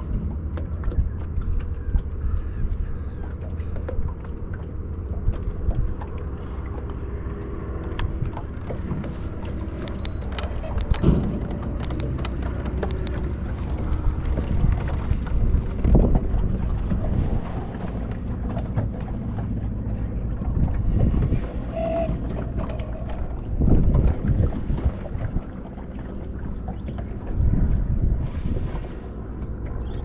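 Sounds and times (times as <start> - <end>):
low steady hum: 0.0 - 30.0
wind buffeting microphone: 0.0 - 30.0.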